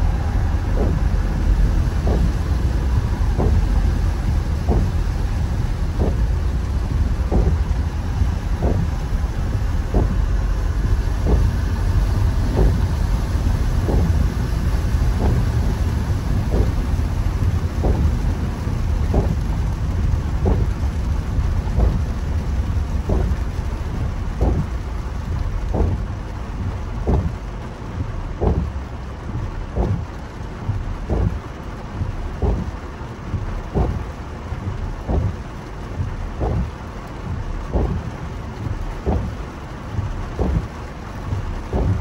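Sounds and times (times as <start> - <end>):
heavy rain drumming on a car: 0.0 - 42.0
tyres and engine rumble: 0.0 - 42.0
windscreen wiper thumps: 0.0 - 42.0.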